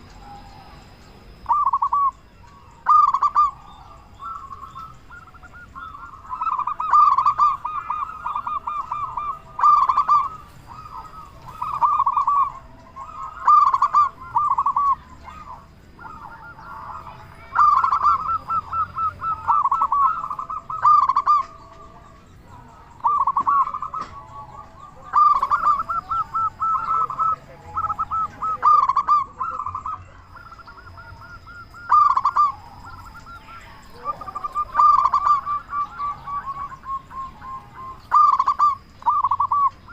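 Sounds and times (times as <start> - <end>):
dove cooing: 0.0 - 39.9
high-pitched bird calls: 0.0 - 39.9.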